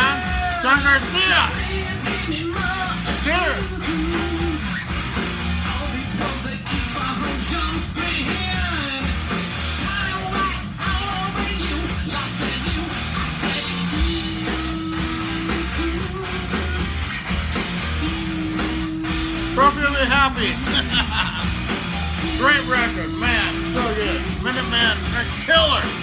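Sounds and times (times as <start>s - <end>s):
rock band with singer: 0.0s - 26.0s.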